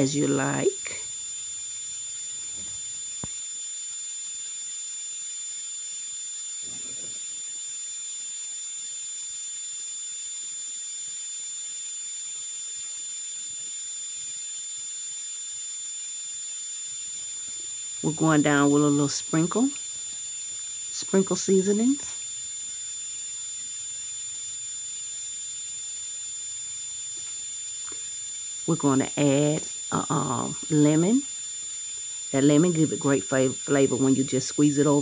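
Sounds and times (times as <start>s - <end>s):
high-pitched electronic whine: 0.0s - 35.0s.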